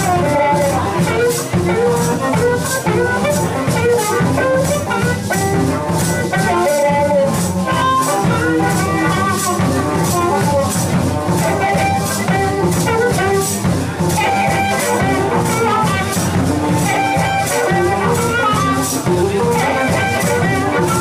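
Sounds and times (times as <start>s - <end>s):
drum kit: 0.0s - 21.0s
electric guitar: 0.0s - 21.0s
harmonica: 0.0s - 21.0s.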